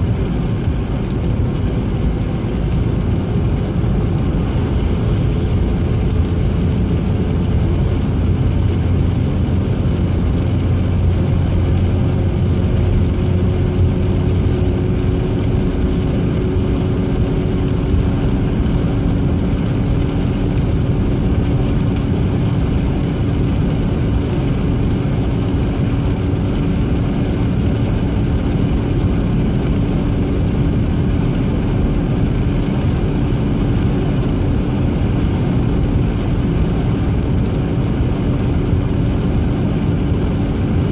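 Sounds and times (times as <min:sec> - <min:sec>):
road and engine noise inside car: 0:00.0 - 0:40.9.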